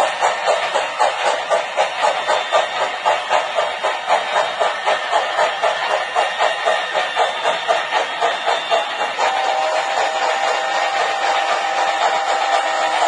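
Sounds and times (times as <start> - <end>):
model steam train running past: 0.0 - 13.0.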